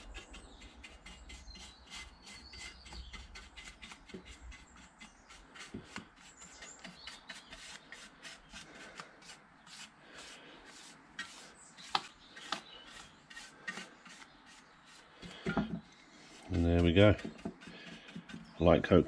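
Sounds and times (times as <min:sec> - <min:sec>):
brush scratching on metal: 0:00.0 - 0:15.6, 0:16.2 - 0:19.0.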